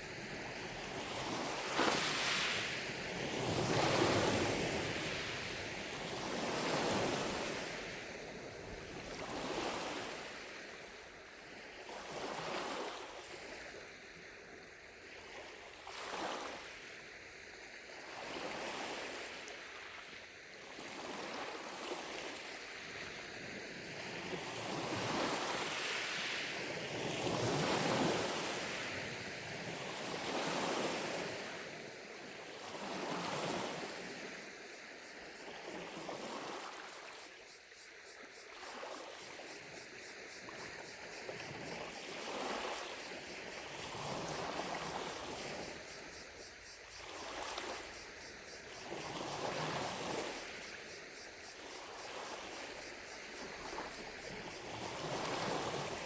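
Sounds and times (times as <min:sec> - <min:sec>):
lake waves lapping on shore: 0:00.0 - 0:14.4, 0:17.7 - 0:56.0.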